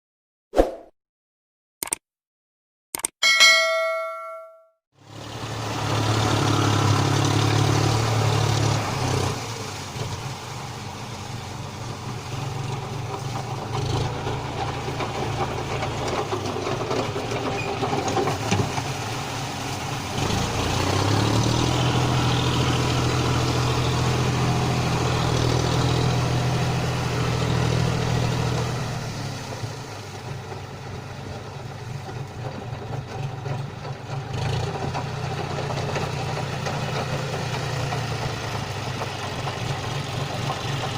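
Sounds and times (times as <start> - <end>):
tractor diesel engine running: 5.0 - 40.9.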